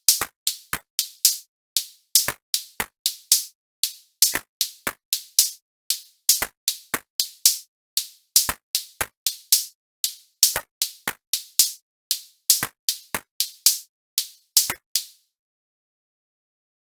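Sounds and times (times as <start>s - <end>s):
drum machine beat: 0.0s - 15.2s.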